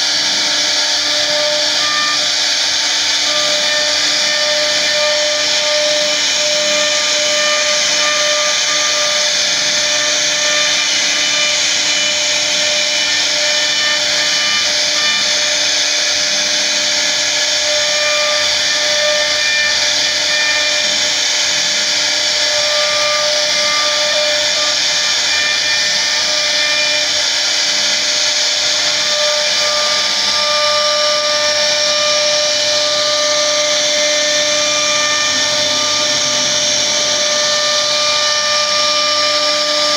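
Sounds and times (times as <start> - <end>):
router bit cutting wood: 0.0 - 39.9
router spindle whine: 0.0 - 39.9.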